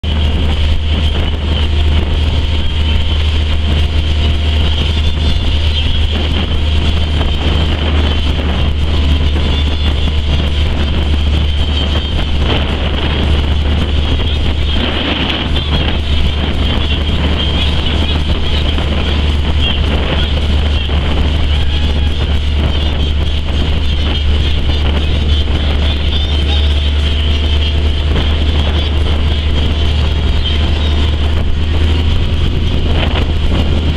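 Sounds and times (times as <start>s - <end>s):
motorboat engine running: 0.0s - 33.9s
wind buffeting microphone: 0.0s - 33.9s.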